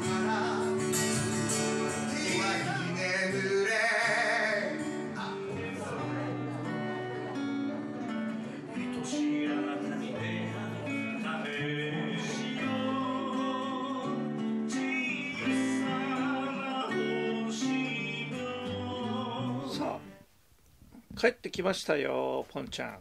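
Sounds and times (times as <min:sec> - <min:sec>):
man singing: 0:00.0 - 0:07.4, 0:08.5 - 0:20.2
nylon-string acoustic guitar: 0:00.0 - 0:20.3.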